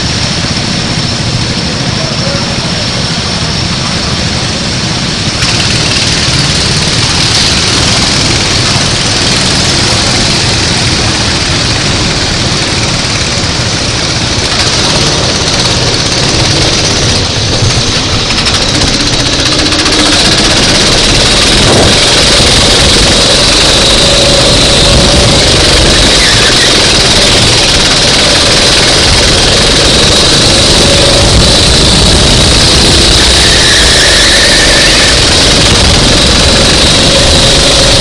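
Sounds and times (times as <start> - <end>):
racing kart engine running: 0.0 - 38.0.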